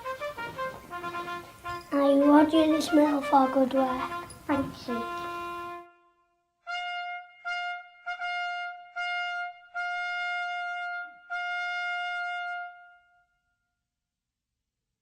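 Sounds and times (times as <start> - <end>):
trumpet fanfare: 0.0 - 13.3.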